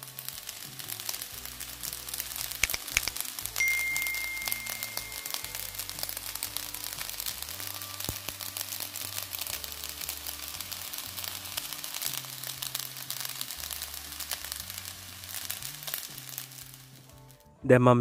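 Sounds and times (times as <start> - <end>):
fried rice sizzling in a wok: 0.0 - 17.4
soft background music: 0.0 - 18.0.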